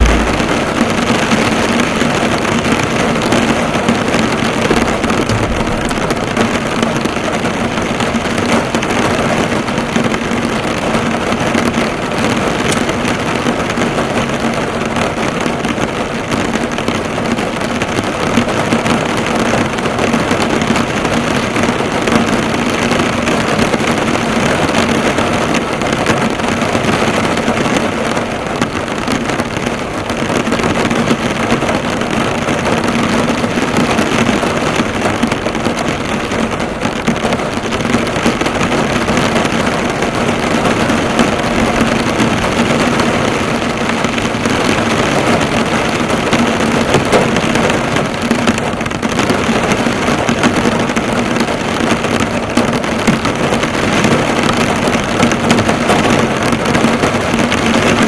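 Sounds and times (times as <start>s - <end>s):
heavy rain drumming on car: 0.0s - 58.0s.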